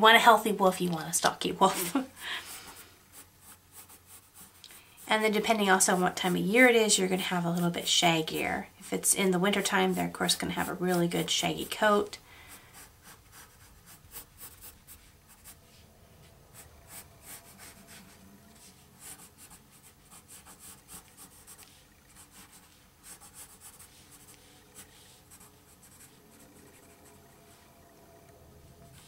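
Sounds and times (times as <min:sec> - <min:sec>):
pencil scratching on paper: 0:01.8 - 0:27.6.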